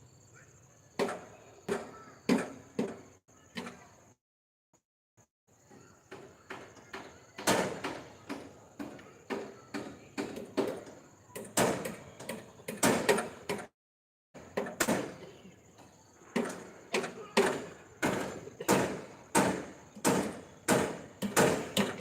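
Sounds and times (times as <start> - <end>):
hammering knocks and bangs: 1.0 - 3.9, 5.7 - 13.7, 14.4 - 15.4, 16.2 - 22.0.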